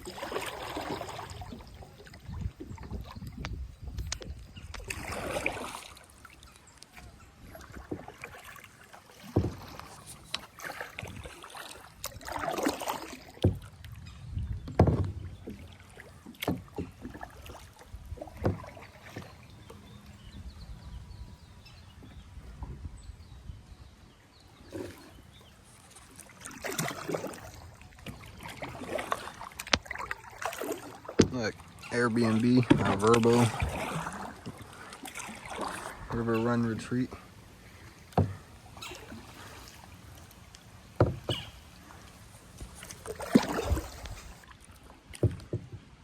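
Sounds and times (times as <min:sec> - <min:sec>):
paddle splashing through water: 0:00.0 - 0:46.0.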